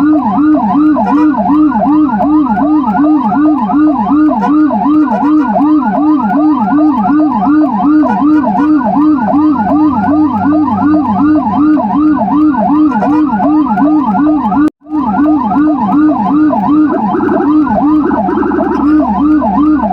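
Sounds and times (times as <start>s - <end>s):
siren in a fast yelp: 0.0s - 19.9s.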